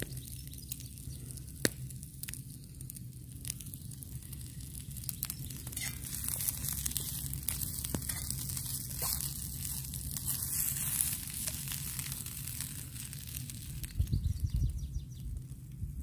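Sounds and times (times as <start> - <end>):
low rumbles: 0.0 - 16.0.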